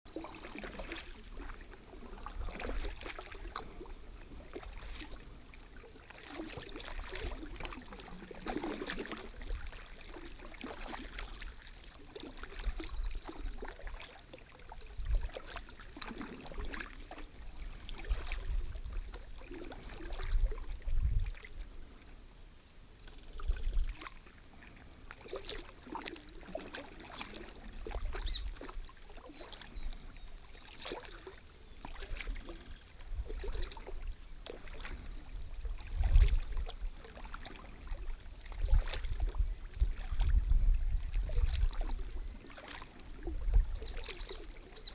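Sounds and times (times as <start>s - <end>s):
paddle splashing in water: 0.1s - 44.9s.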